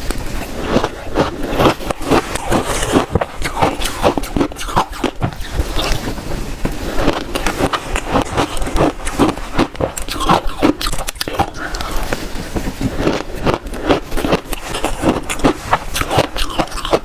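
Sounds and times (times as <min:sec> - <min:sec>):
shaved ice crunching between teeth: 0:00.0 - 0:06.2, 0:06.8 - 0:17.0.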